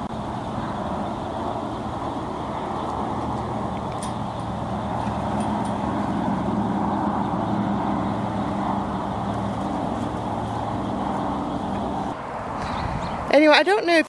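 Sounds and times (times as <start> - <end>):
road noise: 0.0 - 14.0
vehicle engine drone: 0.0 - 14.0.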